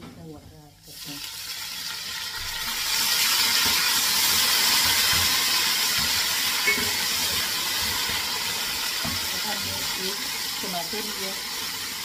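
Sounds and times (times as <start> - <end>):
oil sizzling with steam hiss: 0.7 - 12.0.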